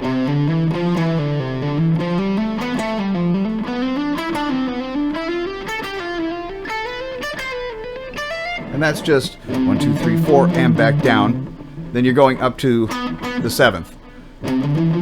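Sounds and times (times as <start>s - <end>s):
guitar playing fast scale runs: 0.0s - 15.0s.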